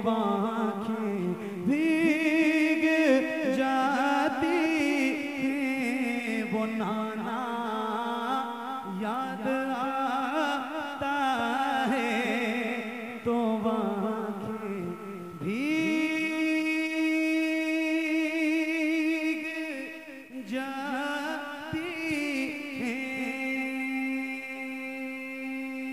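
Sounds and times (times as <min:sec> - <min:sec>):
man singing unaccompanied: 0:00.0 - 0:25.9.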